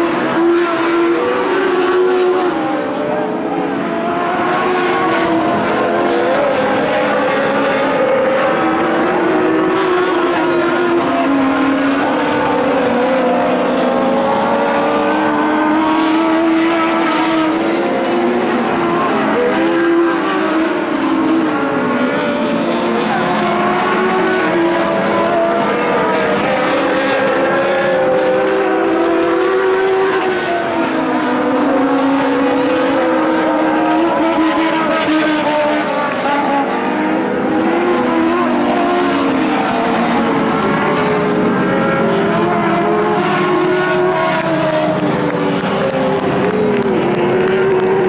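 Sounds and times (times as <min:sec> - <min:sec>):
race car engines revving: 0:00.0 - 0:48.0.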